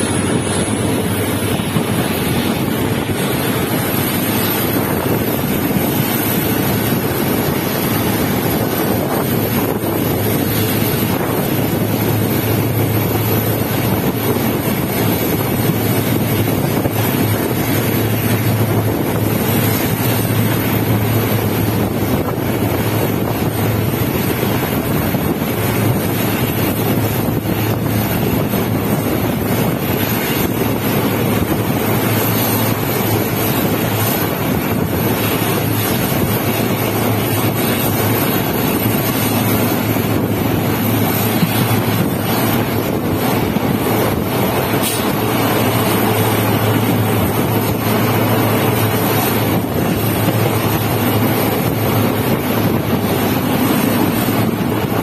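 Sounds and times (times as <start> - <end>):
train wheels rumbling on rails: 0.0 - 55.0
wind on microphone: 0.0 - 55.0.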